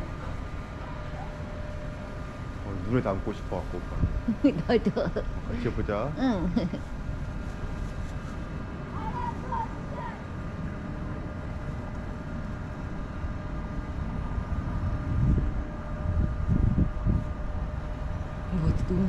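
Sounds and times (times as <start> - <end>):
faint steady tones: 0.0 - 19.0
low rumble: 0.0 - 19.0.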